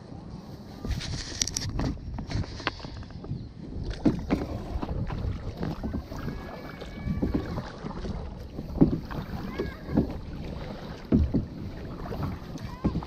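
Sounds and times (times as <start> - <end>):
wind buffeting microphone: 0.2 - 13.0
paddle strokes splashing water: 0.5 - 13.0.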